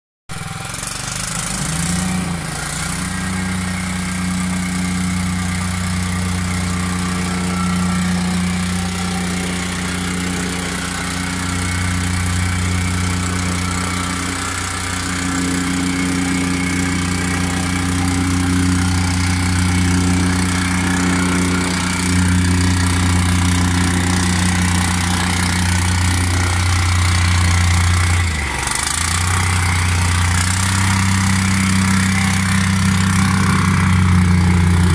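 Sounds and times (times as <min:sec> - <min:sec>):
plate compactor running: 0:00.3 - 0:34.9.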